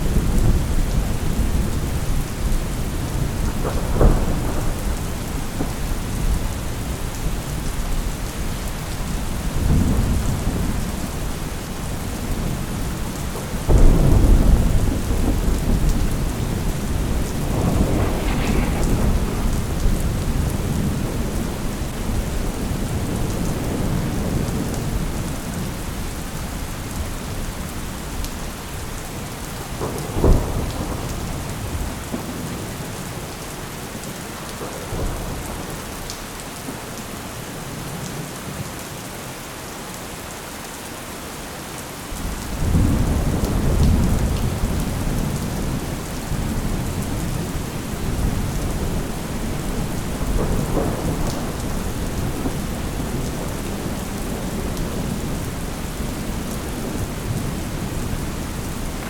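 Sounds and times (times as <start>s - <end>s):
rolling thunder: 0.0s - 33.4s, 42.2s - 59.0s
steady rain: 0.0s - 59.0s.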